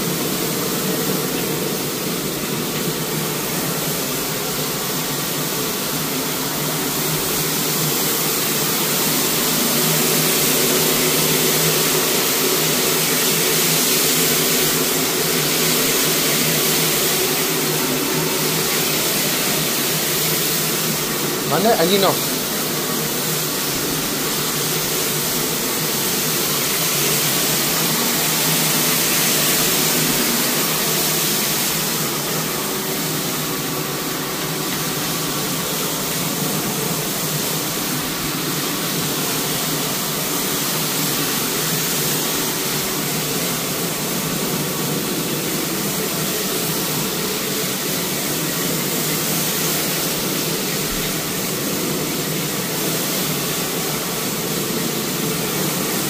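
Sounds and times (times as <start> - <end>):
carpet cleaning machine humming: 0.0 - 56.0.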